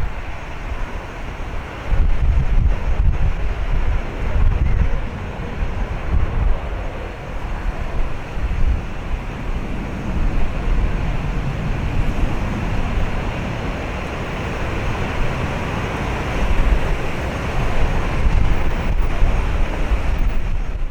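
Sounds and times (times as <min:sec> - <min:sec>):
jet engines rumbling: 0:00.0 - 0:20.9
rushing airflow: 0:00.0 - 0:20.9.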